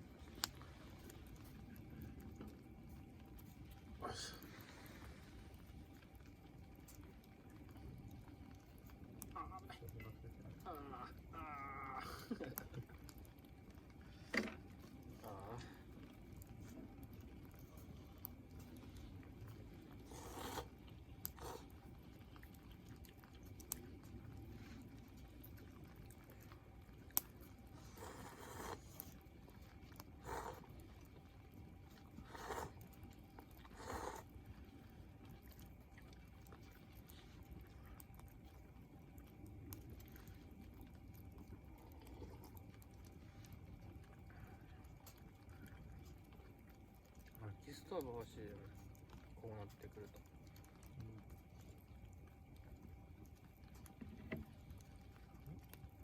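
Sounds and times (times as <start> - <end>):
low steady rumble: 0.0 - 56.0.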